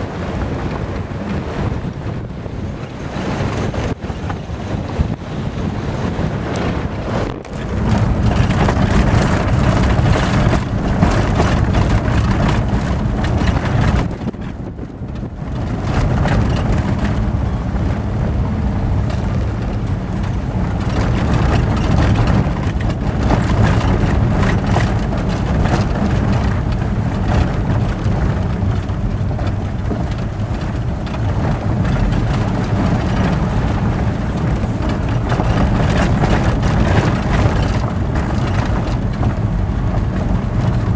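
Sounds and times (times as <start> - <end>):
vehicle driving on gravel: 0.0 - 40.9
wind buffeting microphone: 0.0 - 40.9.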